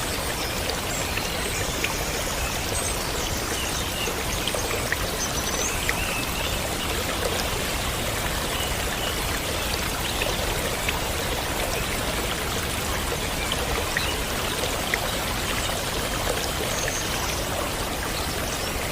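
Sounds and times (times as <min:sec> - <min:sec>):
stream water flowing: 0:00.0 - 0:18.9.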